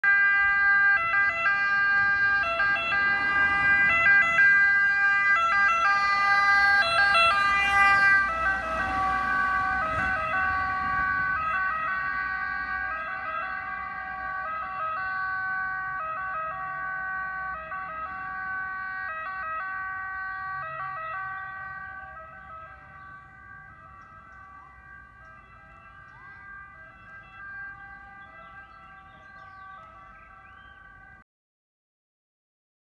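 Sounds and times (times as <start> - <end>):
engine and tyre noise: 0.0 - 31.2
two-tone ambulance siren: 0.0 - 31.2.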